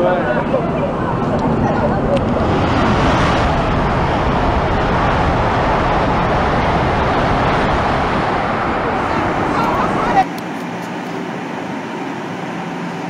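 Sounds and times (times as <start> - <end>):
high-speed train passing: 0.0 - 13.0.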